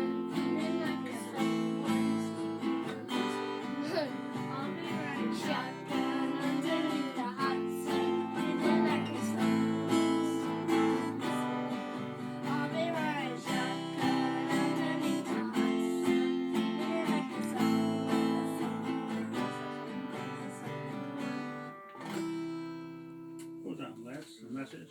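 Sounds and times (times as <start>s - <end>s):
acoustic guitar strumming chords: 0.0s - 23.8s.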